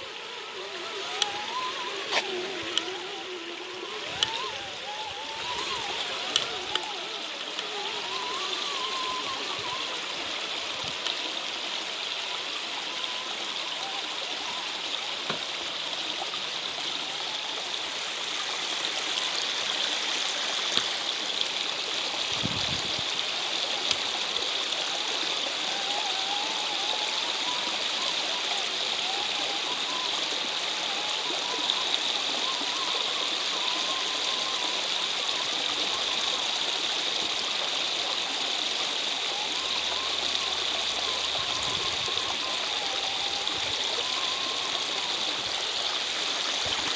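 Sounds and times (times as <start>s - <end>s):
stream splashing over rocks: 0.0s - 46.9s.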